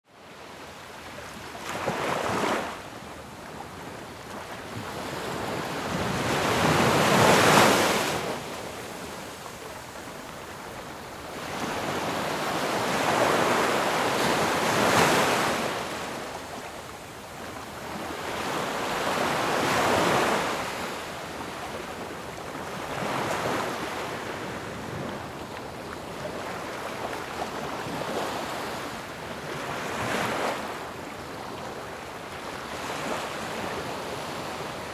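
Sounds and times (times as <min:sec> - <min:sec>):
ocean waves breaking: 0:00.4 - 0:34.9.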